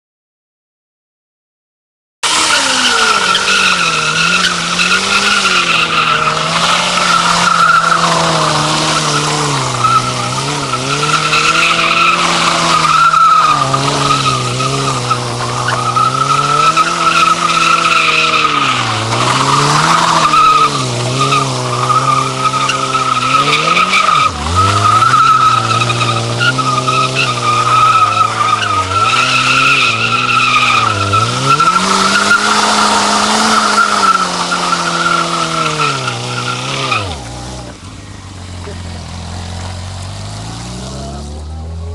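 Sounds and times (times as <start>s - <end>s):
motorcycle engine revving: 2.2s - 41.9s
tyre squealing on pavement: 2.2s - 41.9s.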